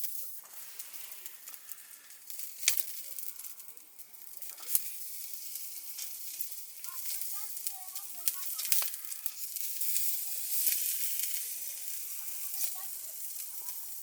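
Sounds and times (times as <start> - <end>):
food sizzling in a hot pan: 0.0 - 14.0.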